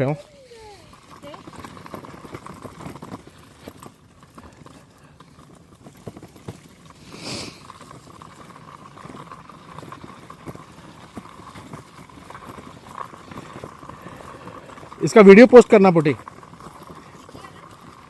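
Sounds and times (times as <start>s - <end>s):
rustle: 0.0s - 14.8s
footsteps on dirt trail: 0.0s - 18.0s.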